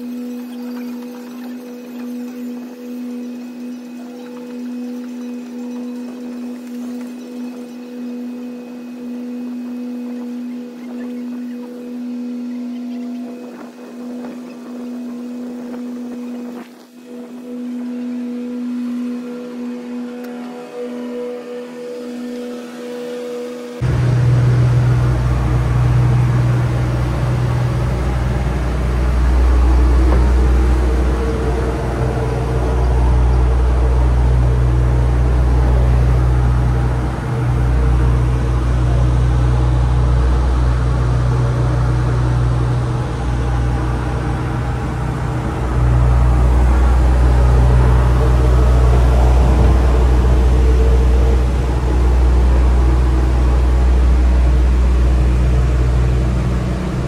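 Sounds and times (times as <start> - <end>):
ship engines droning: 0.0 - 57.0.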